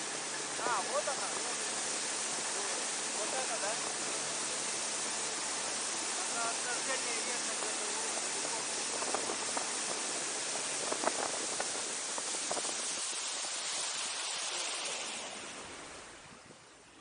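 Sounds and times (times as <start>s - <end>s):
small water splashes: 0.0s - 16.8s
river water rushing: 0.0s - 17.0s.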